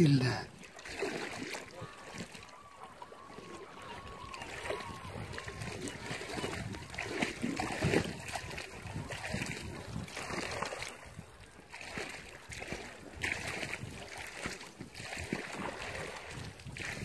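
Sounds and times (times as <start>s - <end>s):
fish splashing in river water: 0.5s - 17.0s.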